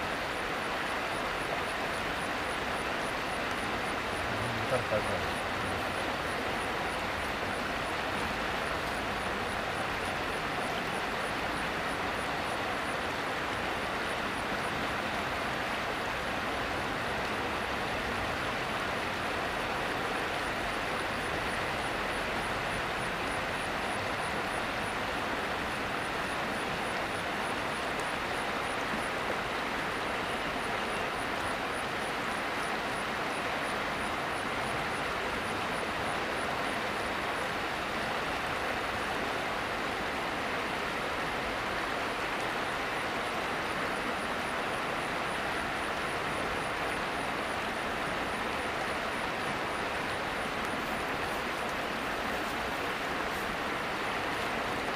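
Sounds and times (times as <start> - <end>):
flowing river water: 0.0 - 54.9.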